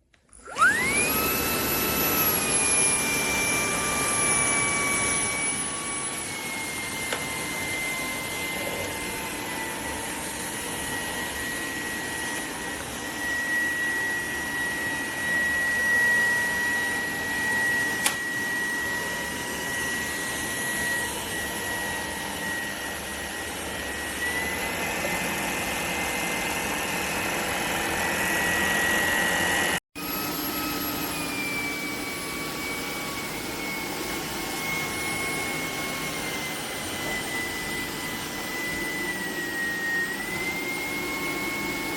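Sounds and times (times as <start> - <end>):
stick vacuum running: 0.0 - 41.9.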